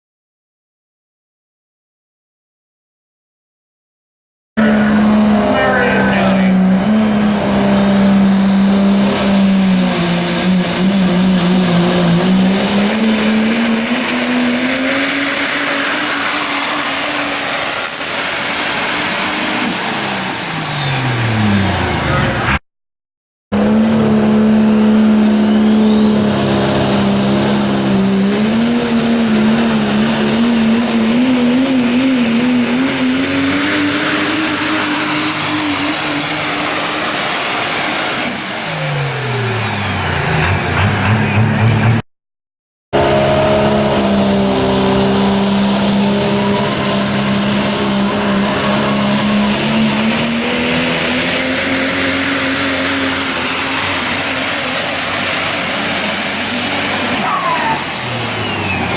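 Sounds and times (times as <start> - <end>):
diesel truck engine at full power: 4.6 - 22.6, 23.5 - 42.1, 42.9 - 58.9
turbocharger whine: 4.6 - 22.6, 23.6 - 42.0, 43.0 - 58.9.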